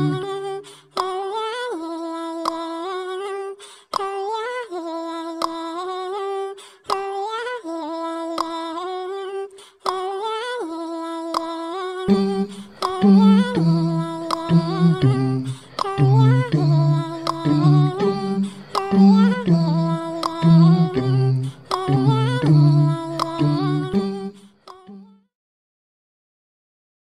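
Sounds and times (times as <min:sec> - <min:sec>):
hummed vocal melody: 0:00.0 - 0:25.2.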